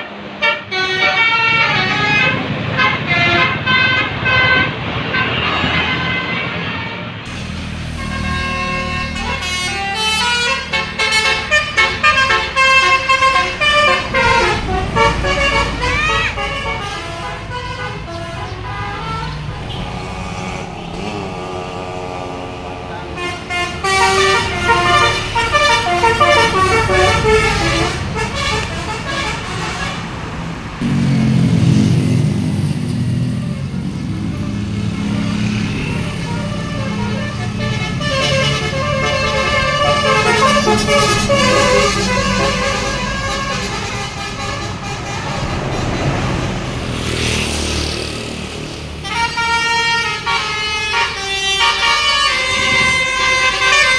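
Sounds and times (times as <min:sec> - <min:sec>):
multi-tone musical bus horn: 0:00.0 - 0:32.1, 0:33.5 - 0:53.9
bus engine running: 0:07.3 - 0:53.9.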